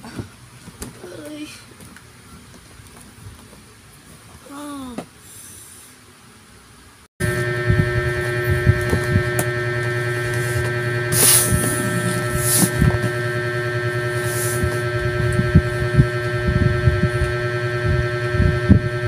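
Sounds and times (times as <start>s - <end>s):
loud electrical hum: 0.0s - 19.0s.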